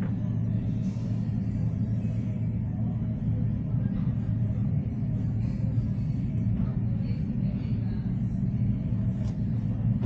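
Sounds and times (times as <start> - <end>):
airport background rumble: 0.0 - 10.0.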